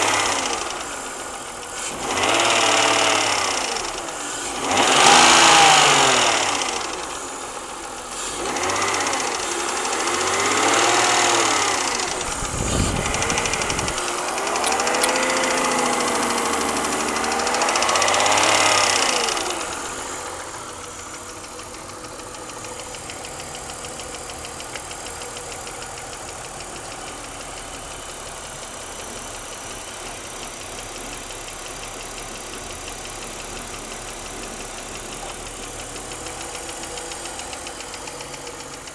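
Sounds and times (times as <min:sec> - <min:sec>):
car engine revving: 0:00.0 - 0:38.9
engine idling with fast ticking: 0:00.0 - 0:38.9.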